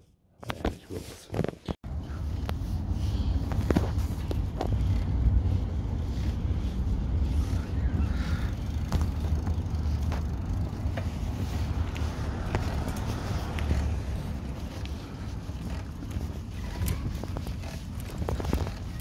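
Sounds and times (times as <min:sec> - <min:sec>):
wind buffeting microphone: 0:01.9 - 0:19.0.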